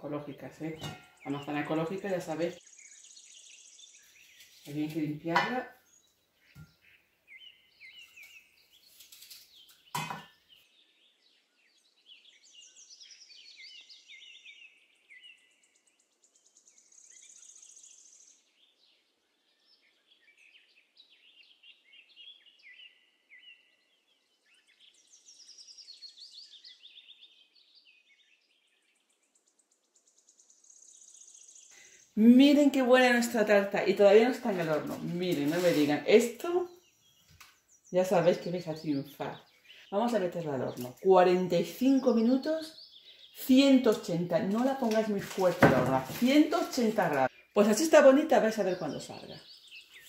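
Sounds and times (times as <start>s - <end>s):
songbird chirping and trilling: 0.0s - 50.0s.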